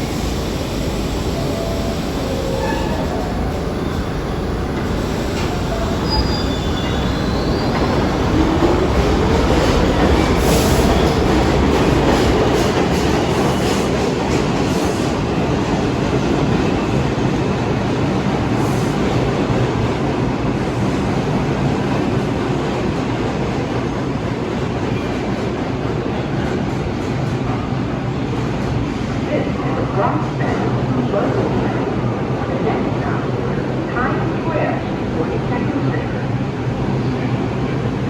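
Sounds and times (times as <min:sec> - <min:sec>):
subway train wheels rumbling: 0:00.0 - 0:38.0.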